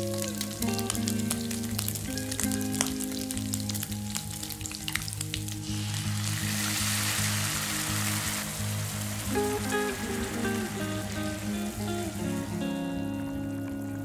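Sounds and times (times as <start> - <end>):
ribs frying in hot oil: 0.0 - 14.0
soft background music: 0.0 - 14.0.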